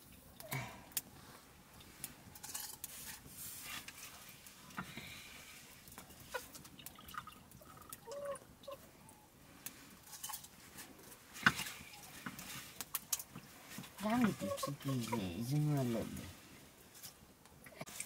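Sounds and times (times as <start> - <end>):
small clicks and crackles: 0.0 - 8.1, 9.1 - 16.3.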